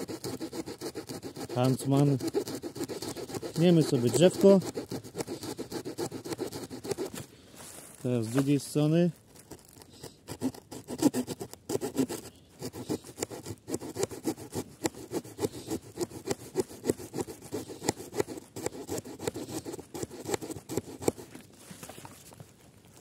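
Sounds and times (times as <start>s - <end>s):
small saw rasping through log: 0.0s - 7.2s, 8.8s - 21.4s.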